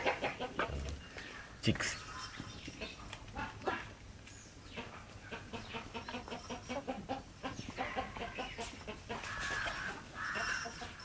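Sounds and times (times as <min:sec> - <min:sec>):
chickens clucking: 0:00.0 - 0:03.9, 0:04.5 - 0:11.0.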